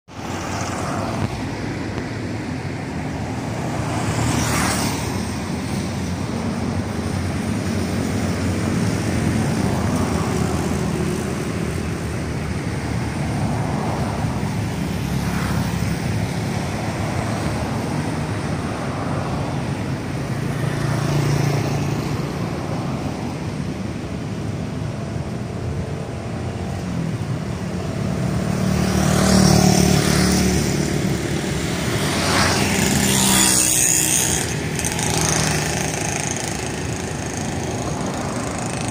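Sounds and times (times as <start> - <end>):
road traffic rumble and tyre hiss: 0.0 - 38.9
vehicles passing: 0.1 - 38.9.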